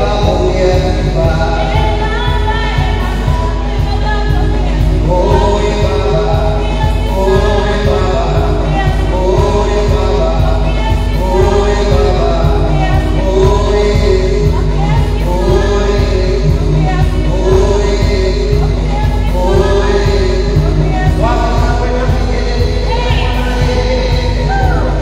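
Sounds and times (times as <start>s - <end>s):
instrumental backing with beat: 0.0s - 25.0s
voices singing worship music: 0.0s - 25.0s.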